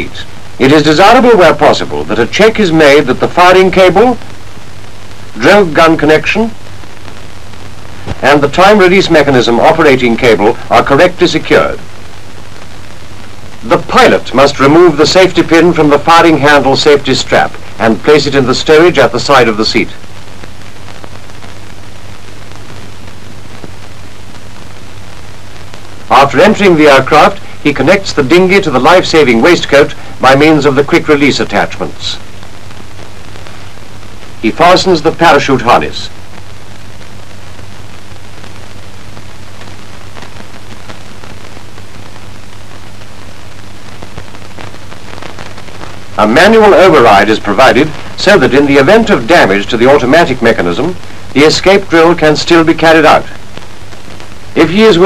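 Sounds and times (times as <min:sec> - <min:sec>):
faint crackles: 0:00.0 - 0:55.0
film soundtrack hiss: 0:00.0 - 0:55.0
low mains hum: 0:00.0 - 0:55.0.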